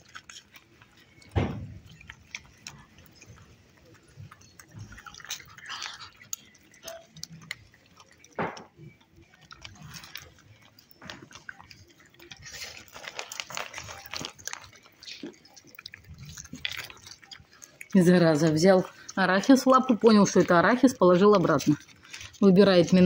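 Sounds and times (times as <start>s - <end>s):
animals chewing: 0.0s - 23.0s.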